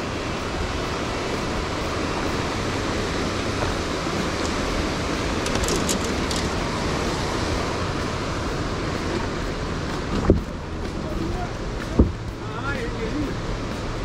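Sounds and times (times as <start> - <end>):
river whitewater rushing: 0.0 - 14.0.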